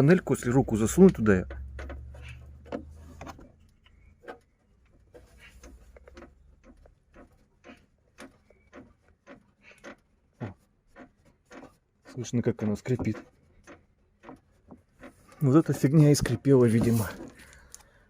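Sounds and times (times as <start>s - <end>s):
sheet metal panel squeaking: 0.0s - 17.4s.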